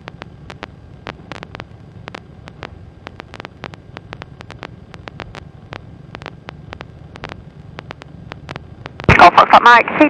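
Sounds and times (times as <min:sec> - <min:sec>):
sharp clicks: 0:00.1 - 0:09.2.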